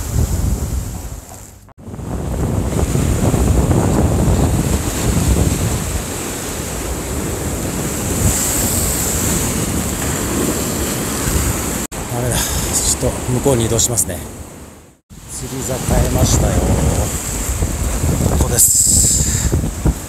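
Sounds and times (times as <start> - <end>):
wind rumbling on microphone: 0.0 - 13.5, 14.3 - 20.0
surf breaking against rocks: 0.0 - 14.0, 15.2 - 20.0.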